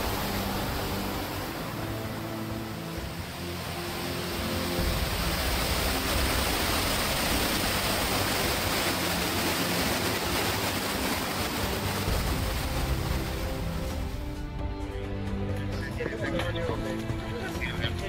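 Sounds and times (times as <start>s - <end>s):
small waterfall rushing: 0.0s - 14.5s.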